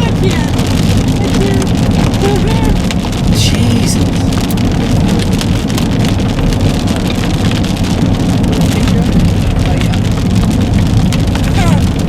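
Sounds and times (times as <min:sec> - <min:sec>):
engine and road noise: 0:00.0 - 0:12.0
rain drumming on a vehicle: 0:00.0 - 0:12.0.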